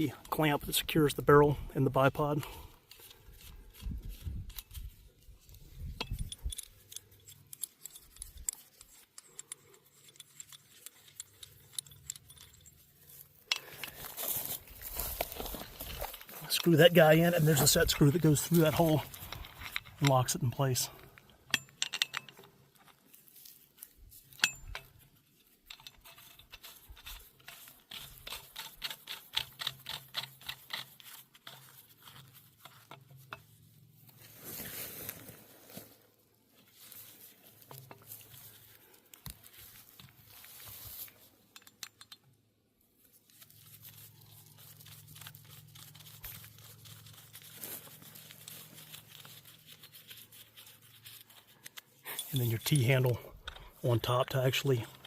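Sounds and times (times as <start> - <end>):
metal clamp clicks and scrapes: 0.1 - 34.2, 36.9 - 42.4, 43.0 - 55.0
rustling scrapes: 2.4 - 21.1, 25.4 - 41.6, 43.0 - 55.0.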